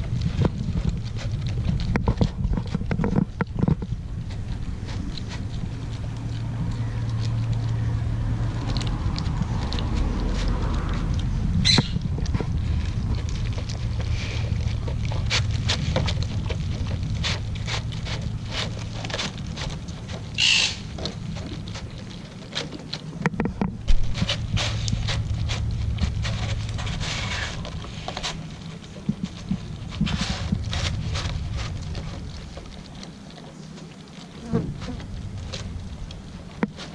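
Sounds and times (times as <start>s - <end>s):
dog chewing and licking: 0.0s - 36.9s
low steady rumble: 0.0s - 36.9s.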